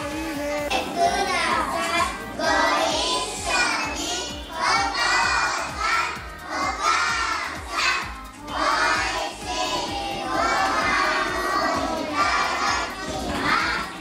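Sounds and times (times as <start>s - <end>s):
children chanting in unison: 0.0s - 14.0s.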